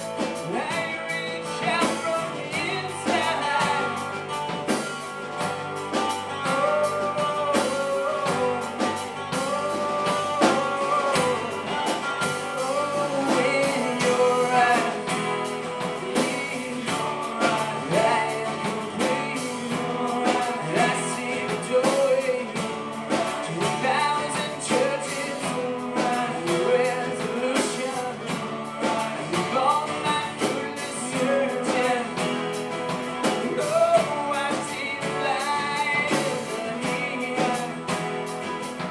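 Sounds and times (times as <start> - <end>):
man singing into microphone: 0.0 - 4.4, 5.9 - 38.9
acoustic guitars strummed: 0.0 - 38.9
drum kit: 0.0 - 38.9.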